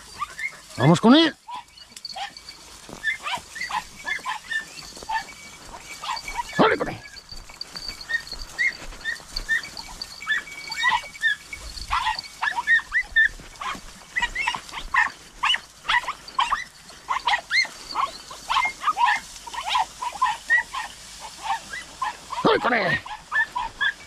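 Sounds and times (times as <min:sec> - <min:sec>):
hounds yelping: 0:00.0 - 0:24.0.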